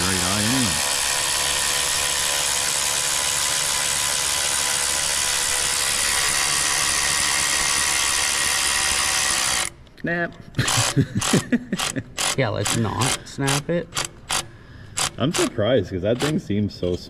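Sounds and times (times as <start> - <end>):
impact wrench running: 0.0 - 9.8, 10.6 - 17.0.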